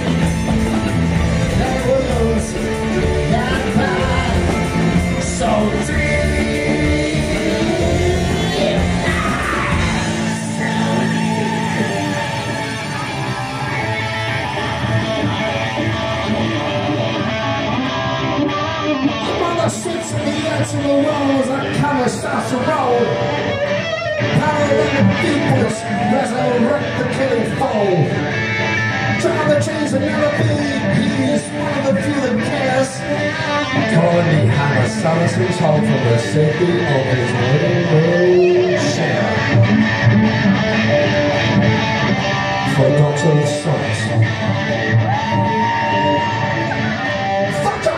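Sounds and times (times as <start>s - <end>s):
electric guitar line: 0.0s - 47.9s
rock band playing: 0.0s - 47.9s.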